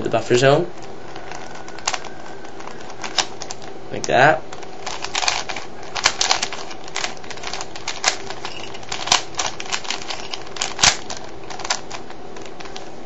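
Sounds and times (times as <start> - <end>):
puzzle cube clicking while twisted: 1.1 - 12.9.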